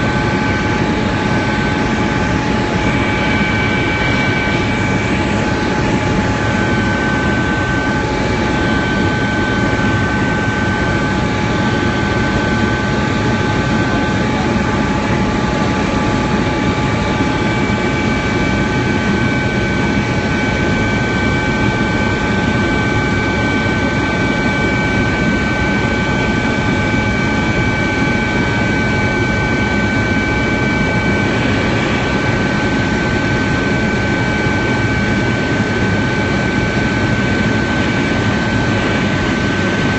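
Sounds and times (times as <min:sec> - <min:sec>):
helicopter engine and rotor rumble: 0:00.0 - 0:39.9.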